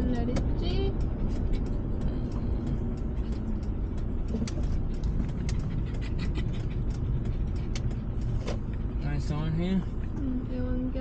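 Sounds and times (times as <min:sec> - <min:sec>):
sharp ticks and taps: 0:00.0 - 0:09.3
car driving rumble inside cabin: 0:00.0 - 0:11.0.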